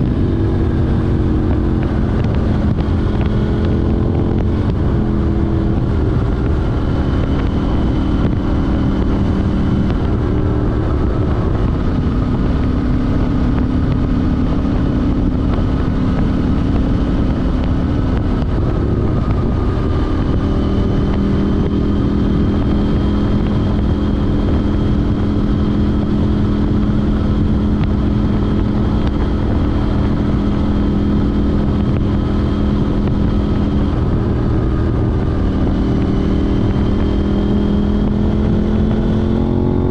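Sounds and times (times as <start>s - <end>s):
motorcycle engine at steady revs: 0.0s - 39.9s
road rumble: 0.0s - 39.9s
wind: 0.0s - 39.9s.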